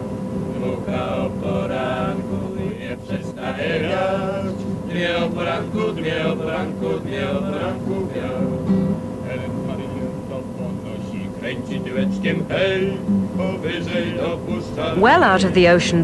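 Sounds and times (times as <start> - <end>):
male choir singing: 0.0 - 15.7.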